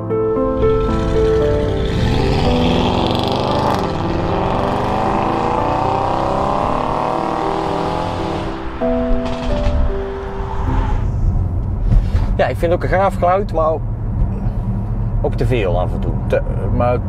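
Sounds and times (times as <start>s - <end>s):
car engine accelerating: 0.3s - 17.0s.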